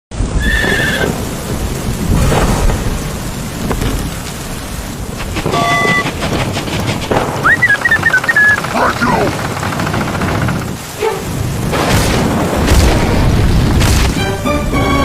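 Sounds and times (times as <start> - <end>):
rain-like hiss: 0.1 - 15.0
thunder rumbling: 0.1 - 15.0.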